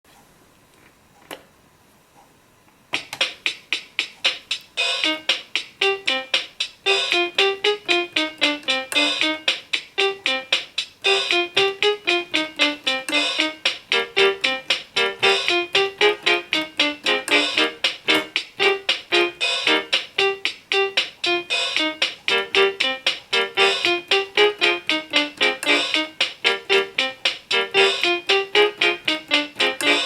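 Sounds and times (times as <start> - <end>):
rhythm box beat: 3.0 - 30.0
toy keyboard playing pop tune: 4.8 - 30.0.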